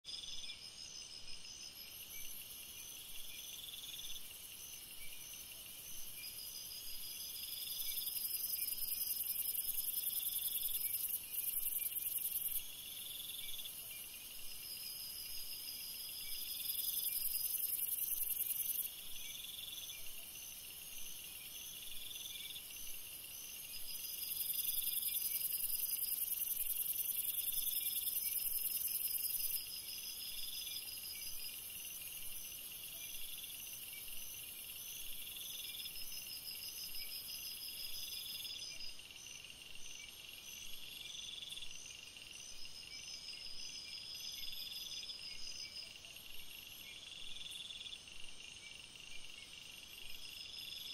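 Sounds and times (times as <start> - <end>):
insect chirp: 0.1 - 50.9.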